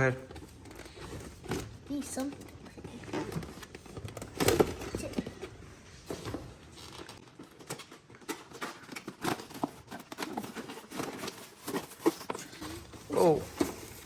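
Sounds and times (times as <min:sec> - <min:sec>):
box and packaging being unpacked: 0:00.0 - 0:14.0.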